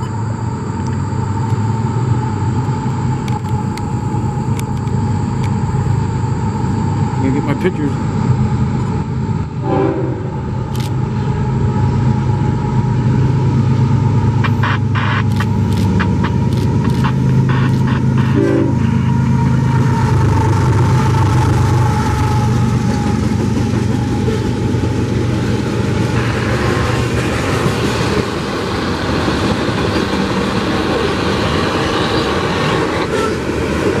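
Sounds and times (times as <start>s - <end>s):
diesel locomotive rumble: 0.0s - 34.0s.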